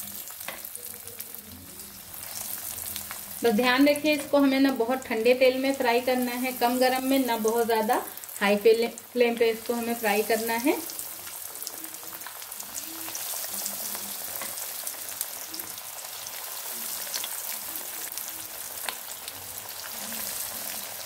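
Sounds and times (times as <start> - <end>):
patties sizzling in hot oil: 0.0 - 21.0.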